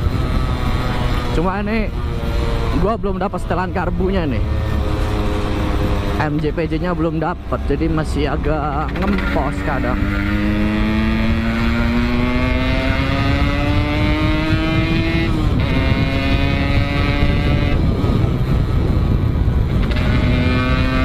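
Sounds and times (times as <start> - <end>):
low wind: 0.0 - 21.0
motorcycle engine accelerating: 0.0 - 21.0
road rumble: 0.0 - 21.0.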